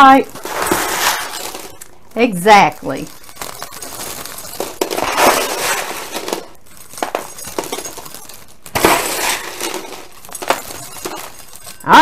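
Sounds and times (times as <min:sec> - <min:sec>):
popcorn rustling and clinking: 0:00.0 - 0:12.0.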